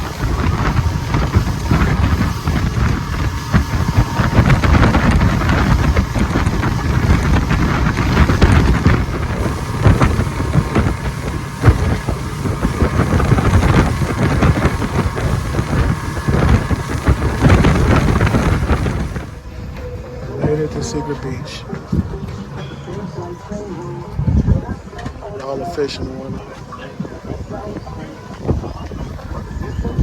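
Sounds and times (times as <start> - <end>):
moving vehicle noise: 0.0 - 30.0
wind buffeting microphone: 0.0 - 30.0.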